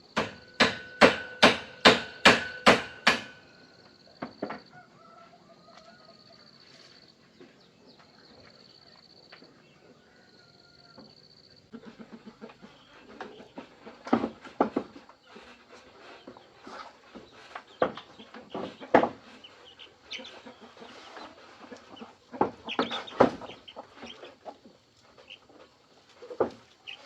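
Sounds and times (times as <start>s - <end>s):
chickens clucking: 4.0s - 27.0s.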